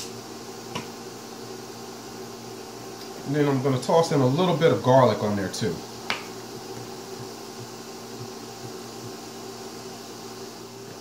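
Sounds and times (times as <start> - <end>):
appliance electrical hum: 0.0 - 11.0
fan-like hiss: 0.0 - 11.0.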